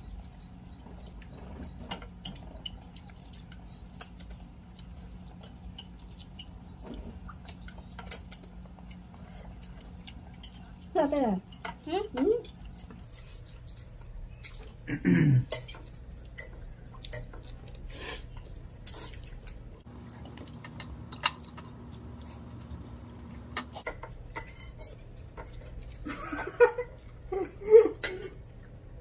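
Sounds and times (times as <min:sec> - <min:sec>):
chewing and slurping: 0:00.0 - 0:23.9.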